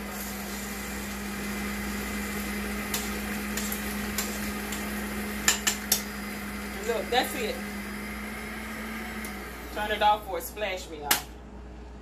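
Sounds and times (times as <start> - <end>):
stand mixer motor humming: 0.0 - 10.0.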